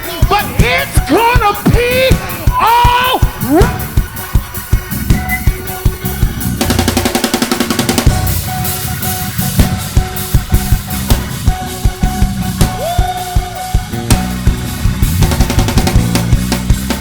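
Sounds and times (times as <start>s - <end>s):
drum kit playing: 0.0s - 17.0s
fast drum roll: 0.0s - 17.0s
sustained keyboard chords: 0.0s - 17.0s.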